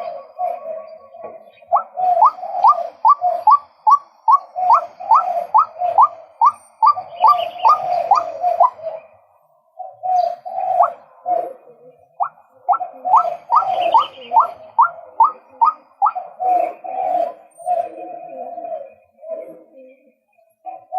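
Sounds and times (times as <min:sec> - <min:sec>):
waterhen calling: 0:00.0 - 0:19.8.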